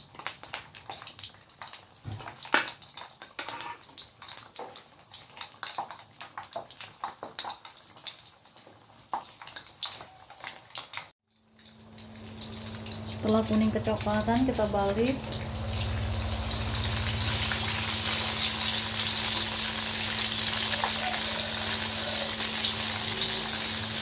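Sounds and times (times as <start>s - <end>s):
oil sizzling and crackling: 0.0s - 24.0s.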